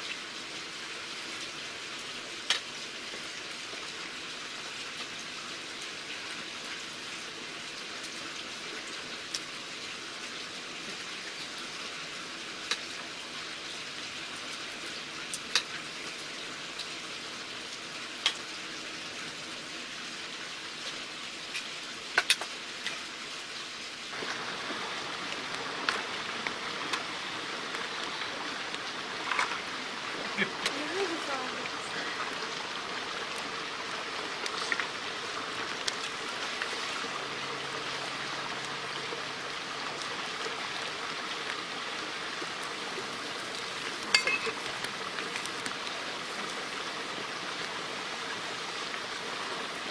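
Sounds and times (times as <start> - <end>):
steady rain-like hiss: 0.0 - 49.9.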